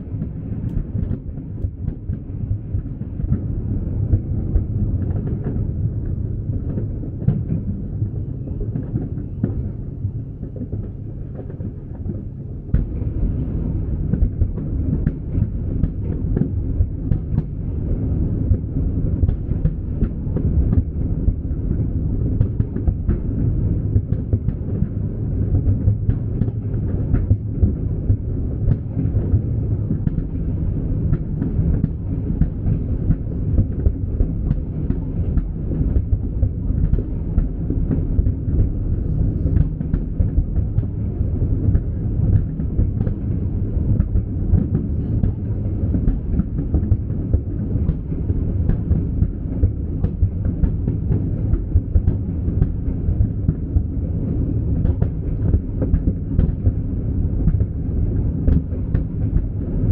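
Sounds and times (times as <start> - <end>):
low rumble of fireworks booms: 0.0 - 59.9.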